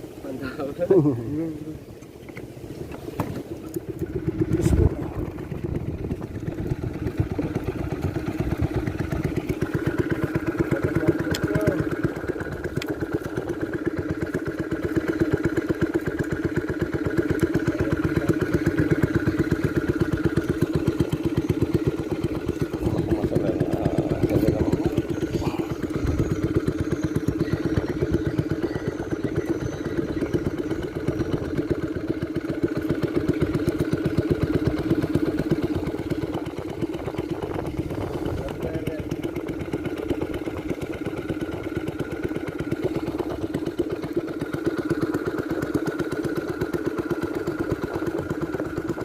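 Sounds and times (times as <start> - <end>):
small boat engine puttering: 0.0 - 49.0.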